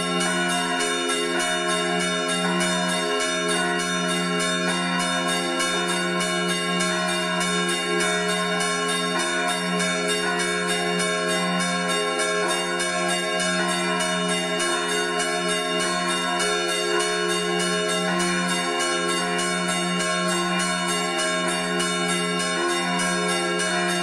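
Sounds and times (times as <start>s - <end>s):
large church bell tolling: 0.0s - 24.0s.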